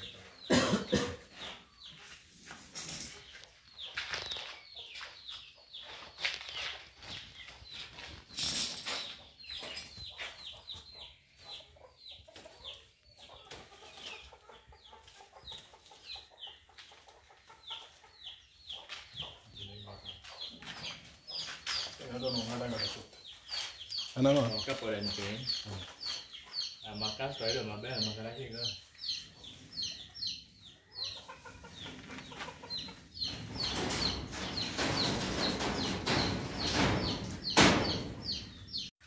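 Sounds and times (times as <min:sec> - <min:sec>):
chickens calling: 0:00.0 - 0:38.9.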